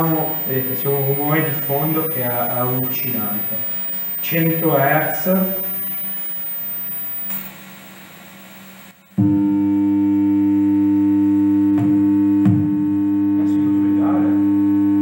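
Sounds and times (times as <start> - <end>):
buzzy test tone: 0.0 - 15.0.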